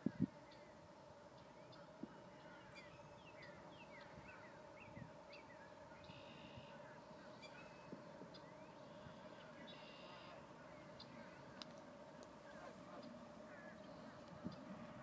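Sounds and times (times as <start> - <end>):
faint small birds chirping: 0.0 - 15.0
faint steady hum: 0.0 - 15.0.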